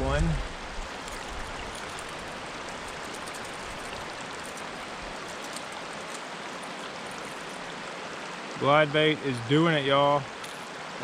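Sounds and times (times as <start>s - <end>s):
creek water flowing over rocks: 0.0s - 11.0s.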